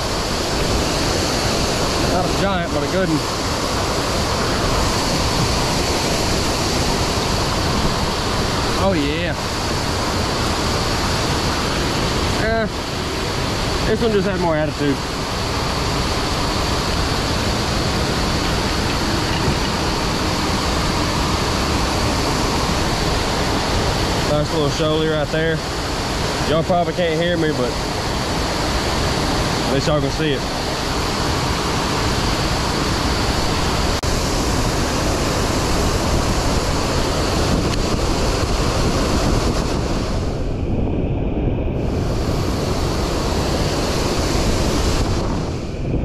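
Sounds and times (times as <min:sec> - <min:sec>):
waterfall rushing: 0:00.0 - 0:40.5, 0:41.9 - 0:45.8.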